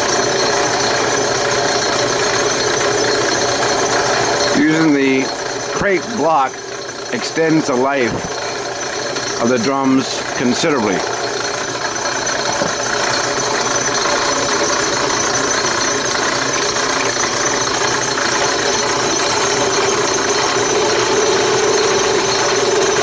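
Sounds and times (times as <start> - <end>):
drill press running: 0.0 - 23.0.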